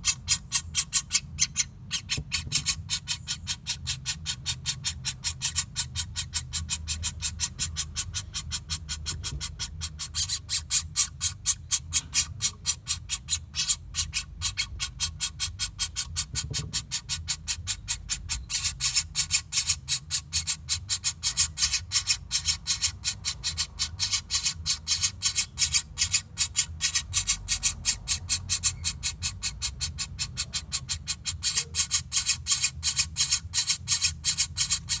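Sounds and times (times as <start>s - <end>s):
woodpecker call: 0.0s - 35.0s.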